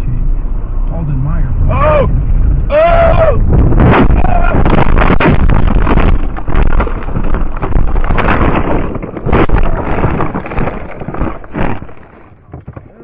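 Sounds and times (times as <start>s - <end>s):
vehicle noise: 0.0s - 13.0s
wind buffeting microphone: 0.4s - 13.0s.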